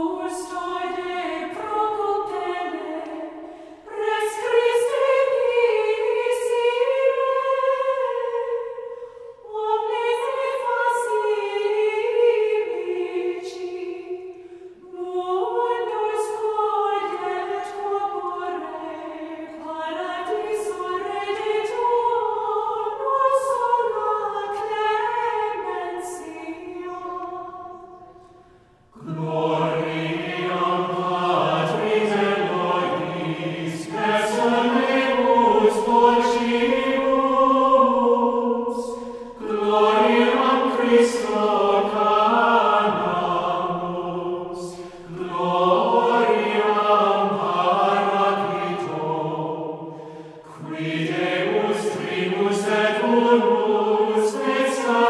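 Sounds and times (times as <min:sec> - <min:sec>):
choir singing a sacred chant: 0:00.0 - 0:55.0.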